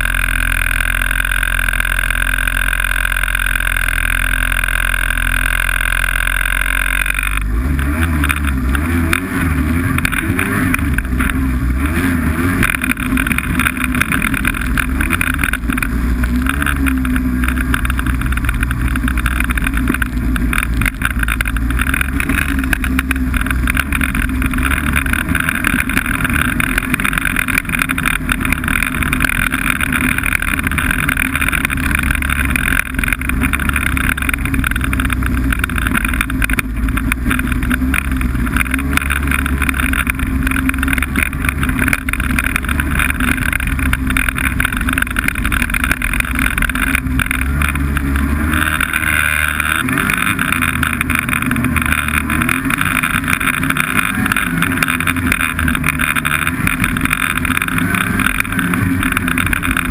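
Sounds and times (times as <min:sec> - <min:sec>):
snowmobile engine droning: 0:00.0 - 0:59.9.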